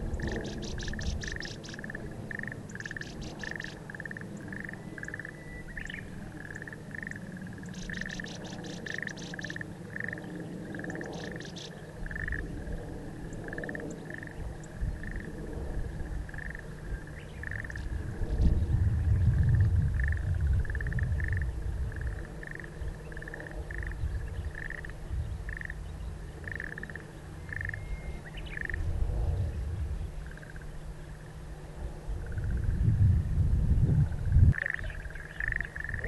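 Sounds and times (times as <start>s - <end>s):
low rumble: 0.0s - 9.1s, 10.2s - 36.0s.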